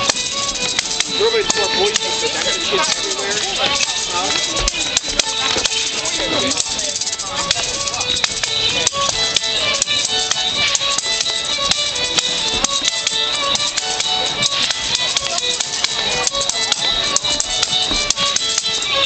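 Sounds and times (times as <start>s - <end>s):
fiddle melody: 0.0s - 19.0s.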